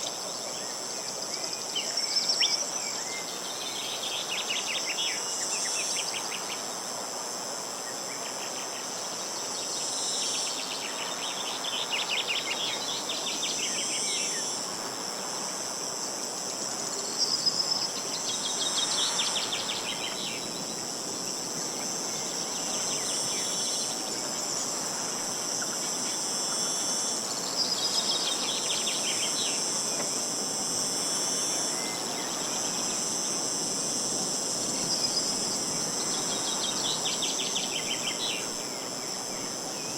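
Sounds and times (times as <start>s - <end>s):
background hiss: 0.0s - 39.9s
insects buzzing: 0.0s - 39.9s.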